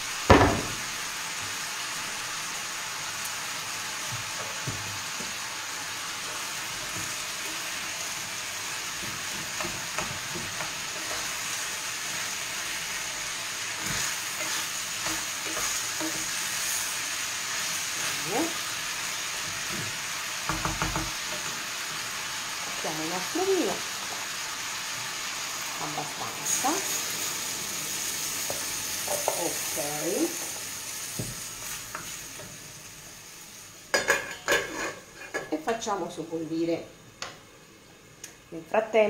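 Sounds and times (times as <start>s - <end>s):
meat sizzling in a pan: 0.0s - 36.0s.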